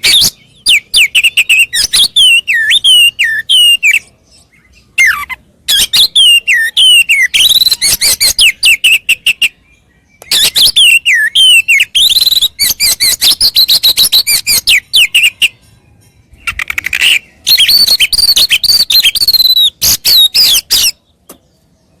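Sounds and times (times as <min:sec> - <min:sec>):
bird singing with whistles and ticks: 0:00.0 - 0:22.0.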